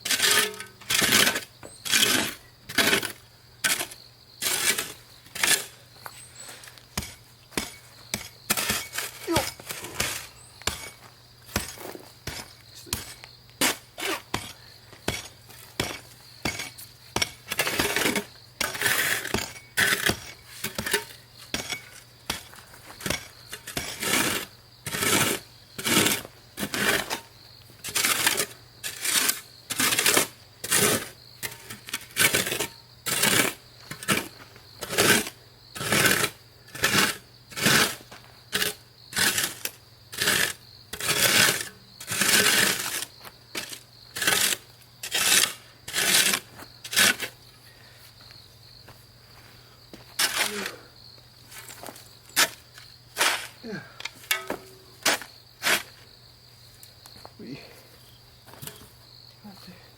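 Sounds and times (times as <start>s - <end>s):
shovel scraping stony ground: 0.0s - 47.6s, 49.9s - 56.2s, 58.4s - 59.2s.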